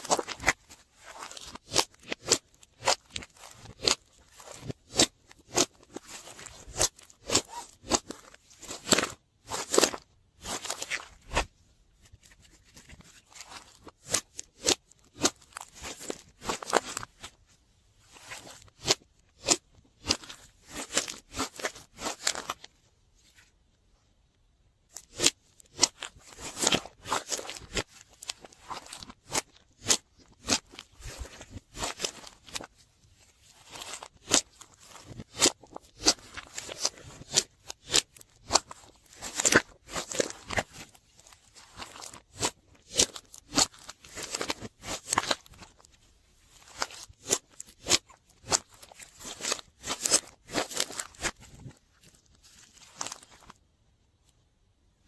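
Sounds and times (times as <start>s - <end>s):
slime being kneaded by hand: 0.0s - 23.4s, 24.9s - 53.6s.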